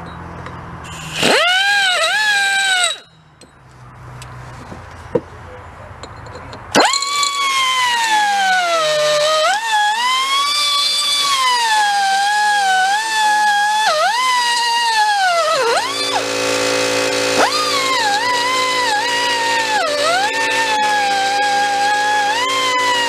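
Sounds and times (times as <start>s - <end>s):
die grinder whining: 0.9s - 3.1s, 6.6s - 23.0s.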